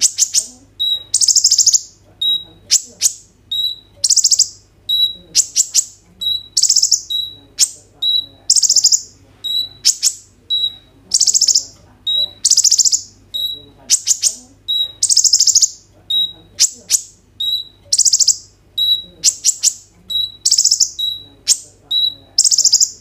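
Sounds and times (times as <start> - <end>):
sunbird singing high thin phrases: 0.0 - 23.0.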